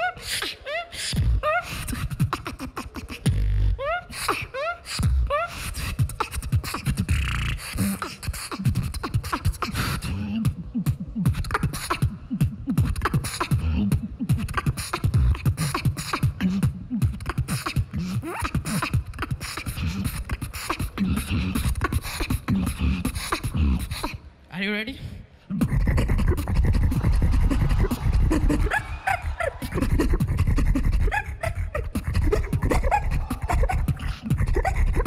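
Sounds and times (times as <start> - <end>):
human beatboxing: 0.0 - 24.2, 25.5 - 35.0.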